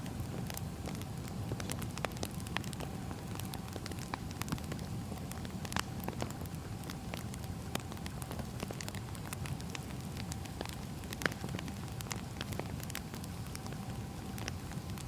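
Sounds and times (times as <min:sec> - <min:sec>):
fire low rumble: 0:00.0 - 0:15.0
firewood crackling and popping: 0:00.0 - 0:15.0.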